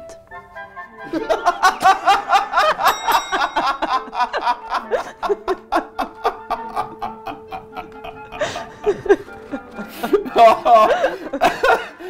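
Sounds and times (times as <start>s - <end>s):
man laughing heartily: 1.0s - 12.0s.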